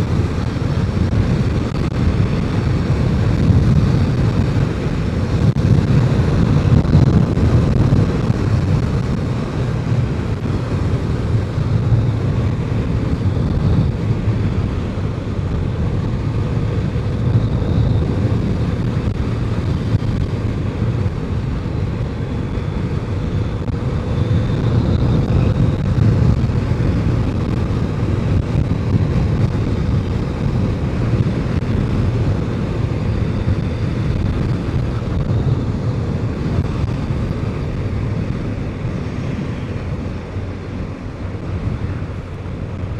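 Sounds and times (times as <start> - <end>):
motorcycle engine running: 0.0 - 42.9
wind rush on microphone: 0.0 - 42.9.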